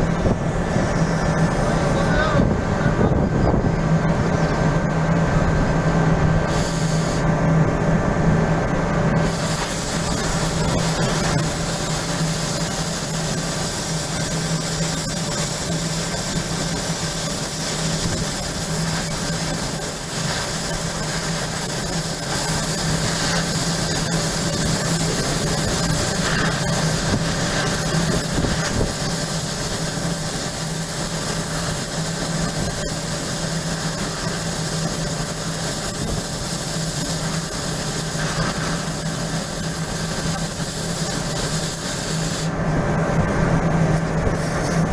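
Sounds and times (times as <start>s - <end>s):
machinery low hum: 0.0s - 44.9s.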